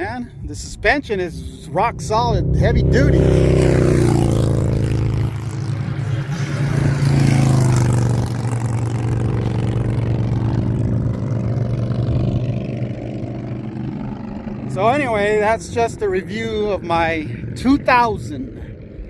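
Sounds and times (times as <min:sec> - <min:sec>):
vehicle engine running: 0:00.0 - 0:17.6.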